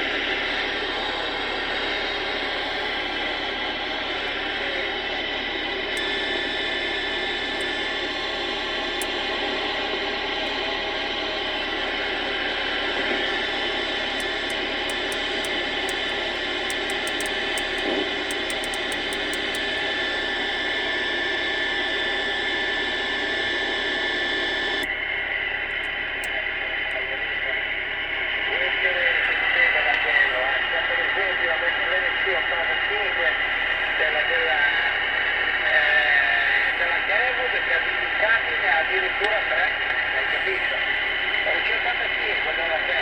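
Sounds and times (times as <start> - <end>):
radio static hiss: 0.0 - 24.9, 25.8 - 43.0.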